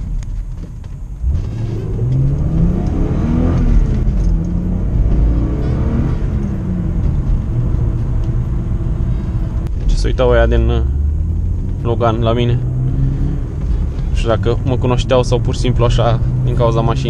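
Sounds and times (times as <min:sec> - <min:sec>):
car engine revving: 0:01.1 - 0:17.0.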